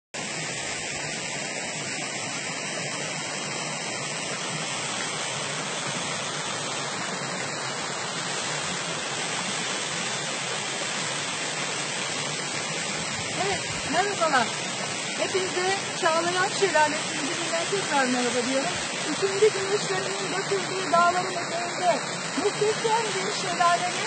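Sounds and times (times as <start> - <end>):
waterfall rushing: 0.2 - 24.0.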